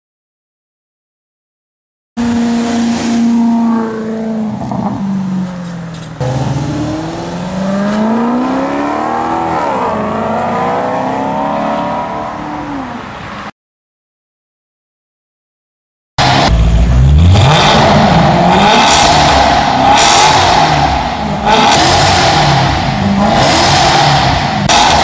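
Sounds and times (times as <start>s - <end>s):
car engine revving: 2.2s - 13.4s, 16.2s - 25.0s.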